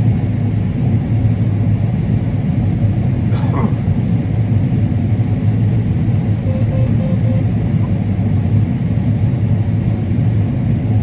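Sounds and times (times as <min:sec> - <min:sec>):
combine harvester rumbling: 0:01.4 - 0:11.0.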